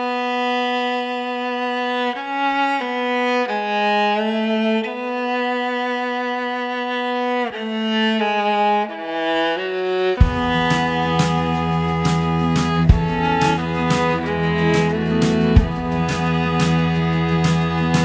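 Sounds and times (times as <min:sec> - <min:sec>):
bowed string melody: 0:00.0 - 0:18.0.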